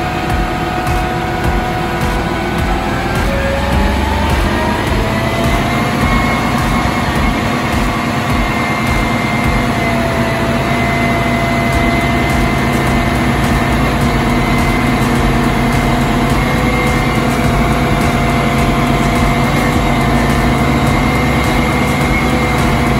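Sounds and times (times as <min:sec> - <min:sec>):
vacuum truck machine drone with whine: 0:00.0 - 0:22.9.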